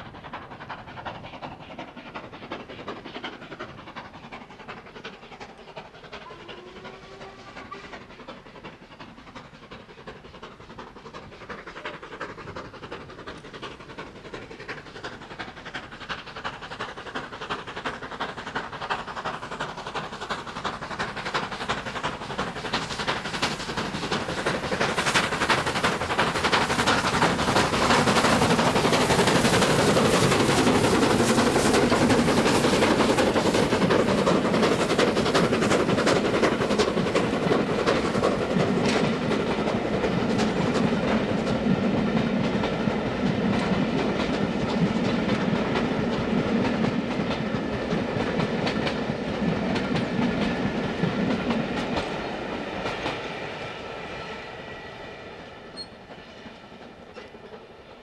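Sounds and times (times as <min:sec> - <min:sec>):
steam locomotive pounding exhaust: 0:00.0 - 0:58.0
train wheels clattering: 0:00.0 - 0:58.0.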